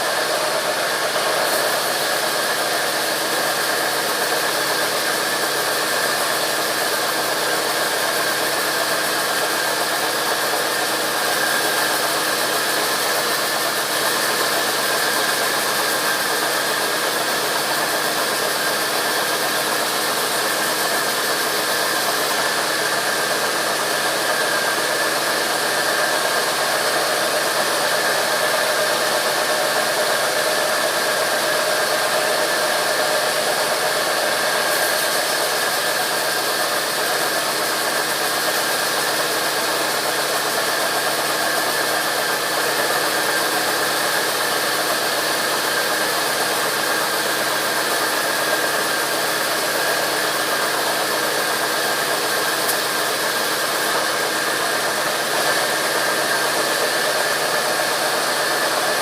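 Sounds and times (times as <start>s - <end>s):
sawmill machinery whining: 0.0s - 59.0s.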